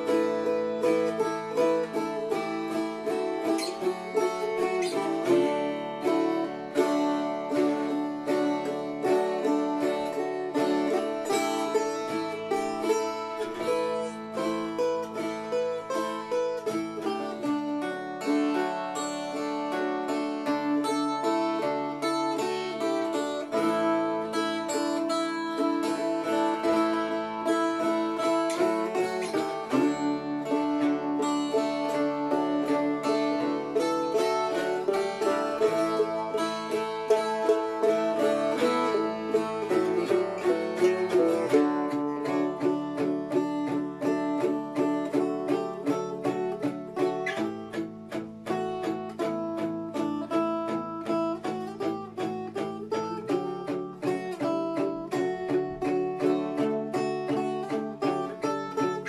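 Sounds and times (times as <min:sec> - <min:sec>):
dulcimer and bouzouki folk jam: 0:00.0 - 0:59.0.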